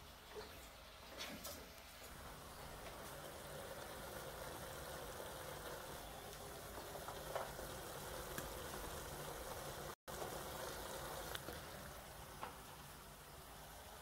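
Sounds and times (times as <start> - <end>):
pork sizzling in a pot: 2.1 - 14.0.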